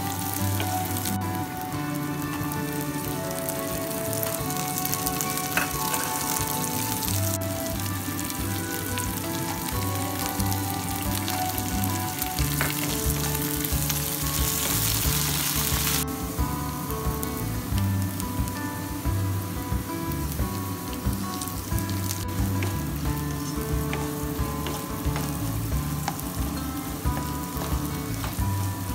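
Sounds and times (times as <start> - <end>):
food sizzling in oil: 0.0 - 28.9.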